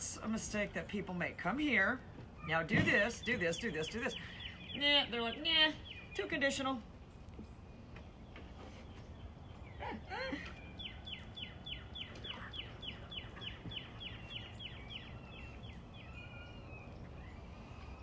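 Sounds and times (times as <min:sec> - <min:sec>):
bird singing high chirps: 0:02.4 - 0:06.7, 0:07.5 - 0:18.0.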